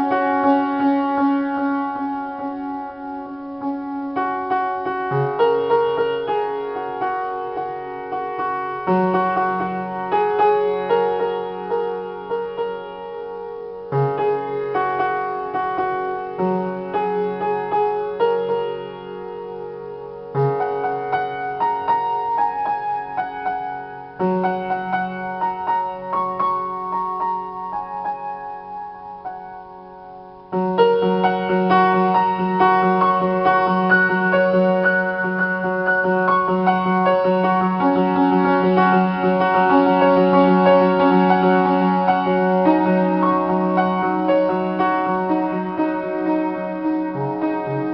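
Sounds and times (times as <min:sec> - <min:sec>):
piano improvisation: 0:00.0 - 0:47.9.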